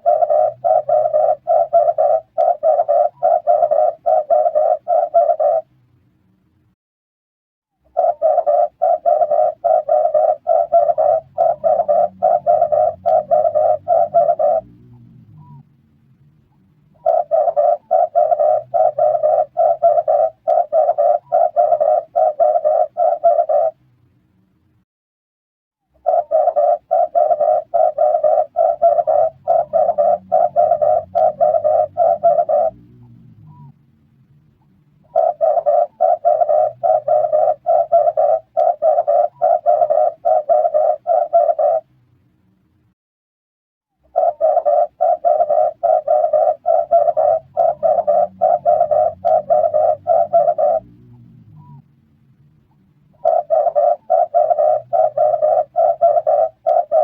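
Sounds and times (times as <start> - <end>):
dove calling: 0.0 - 5.7, 7.9 - 15.6, 16.9 - 23.8, 26.0 - 33.8, 35.0 - 41.9, 44.1 - 51.8, 53.1 - 57.0.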